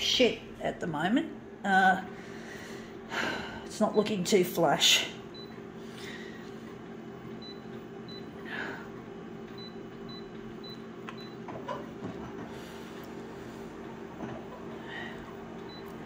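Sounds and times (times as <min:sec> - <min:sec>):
copier humming: 0:00.0 - 0:16.0.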